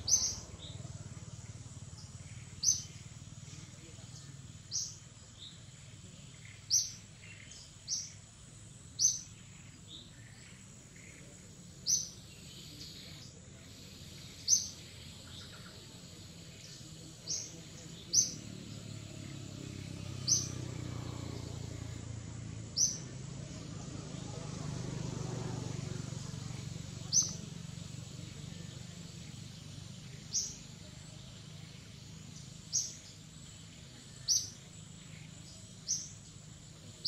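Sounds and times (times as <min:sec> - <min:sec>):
bird chirping: 0:00.0 - 0:37.0
other birds chirping faintly: 0:00.0 - 0:37.0.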